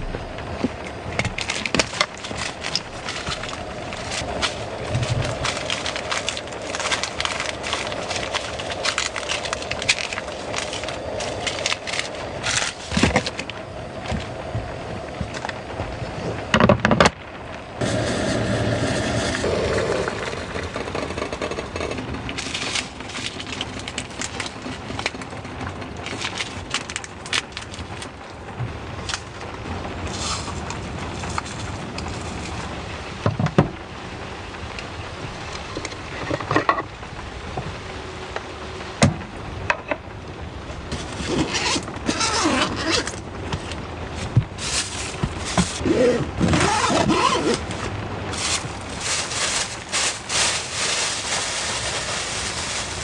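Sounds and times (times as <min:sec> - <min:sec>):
loud clatter: 0:00.0 - 0:17.2, 0:17.8 - 0:33.7, 0:40.9 - 0:53.0
rain drumming on car roof: 0:00.0 - 0:53.0.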